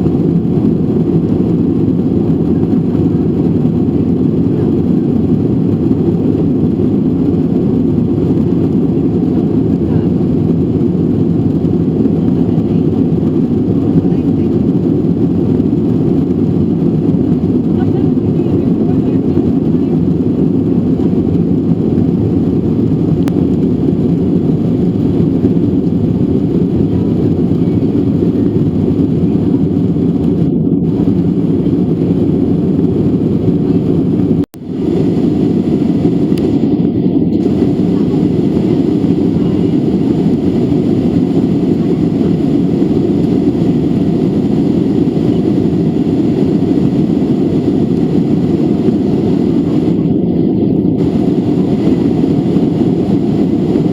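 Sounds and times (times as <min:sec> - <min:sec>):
airplane cabin engine noise: 0:00.0 - 0:53.9.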